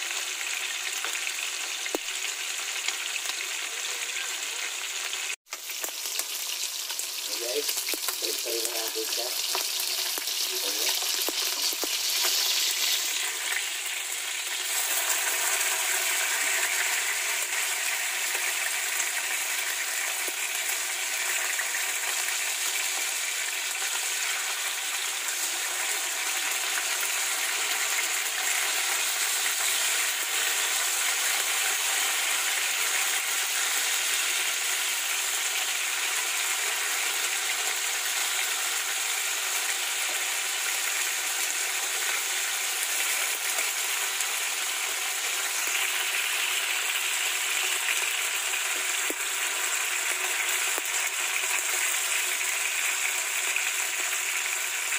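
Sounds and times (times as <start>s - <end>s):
fish sizzling in hot oil: 0.0s - 54.9s.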